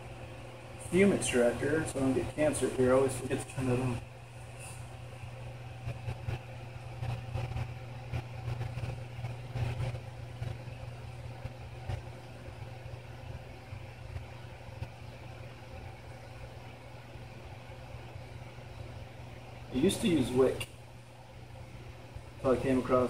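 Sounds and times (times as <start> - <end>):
extractor fan humming: 0.0 - 23.0.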